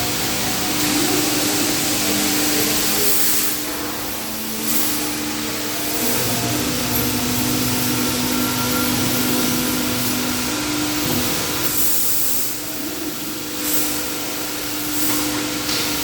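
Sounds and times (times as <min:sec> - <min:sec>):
machine hiss and hum: 0:00.0 - 0:16.0.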